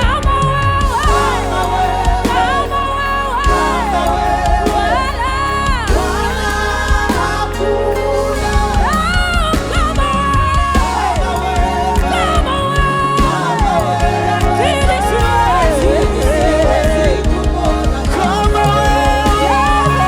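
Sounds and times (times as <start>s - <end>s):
gospel worship song: 0.0s - 20.0s.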